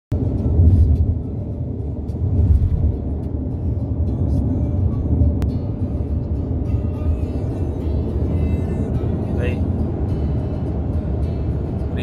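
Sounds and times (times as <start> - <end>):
car road noise rumble: 0.1 - 12.0.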